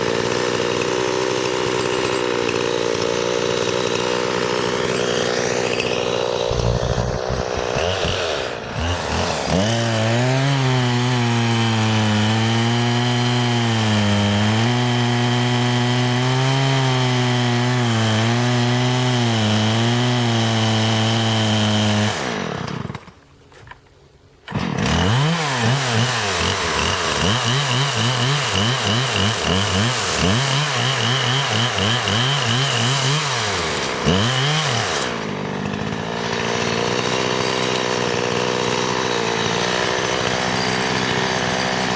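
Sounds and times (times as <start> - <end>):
chainsaw cutting wood: 0.0 - 23.8, 24.5 - 41.9.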